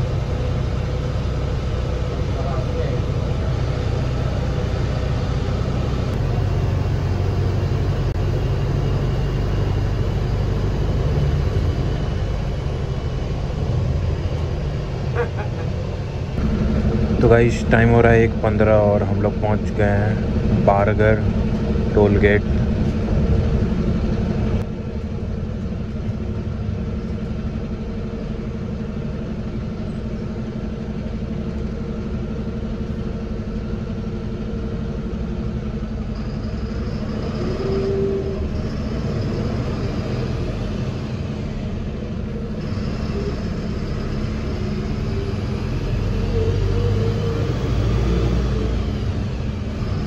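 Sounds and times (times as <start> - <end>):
bus engine rumble: 0.0 - 50.0.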